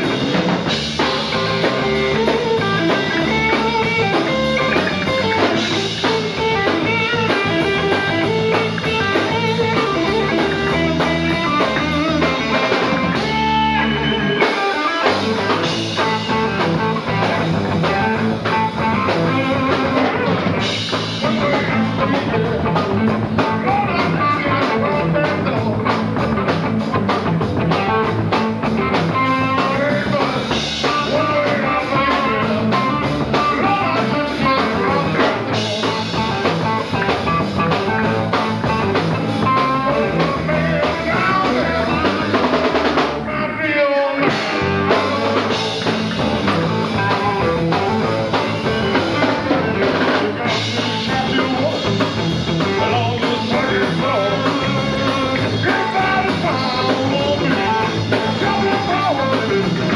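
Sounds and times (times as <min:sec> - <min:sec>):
drum kit: 0:00.0 - 0:59.9
electric bass: 0:00.0 - 0:59.9
electric guitar: 0:00.0 - 0:59.9.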